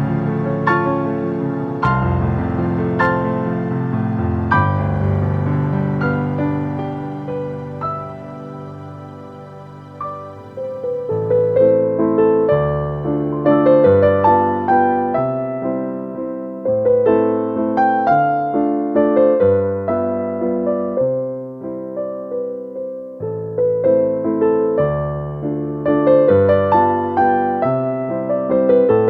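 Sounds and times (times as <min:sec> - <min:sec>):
gentle solo piano piece: 0:00.0 - 0:29.0.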